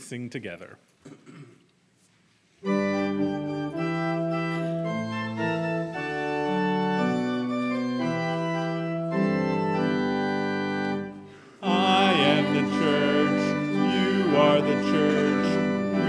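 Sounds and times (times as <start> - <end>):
church organ chords: 2.6 - 16.0.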